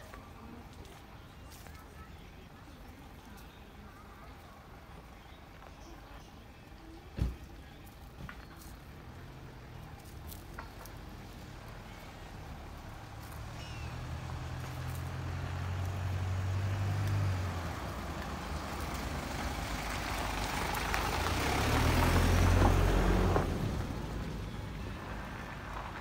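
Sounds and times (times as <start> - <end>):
vehicles passing on road: 0.0 - 26.0.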